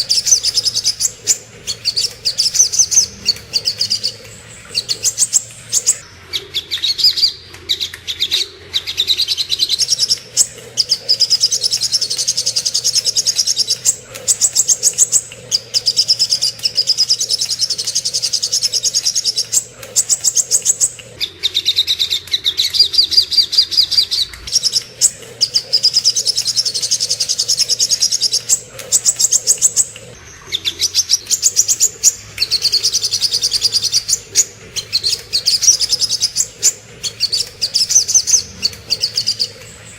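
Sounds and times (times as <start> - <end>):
bird high-pitched trilling: 0.0 - 39.9.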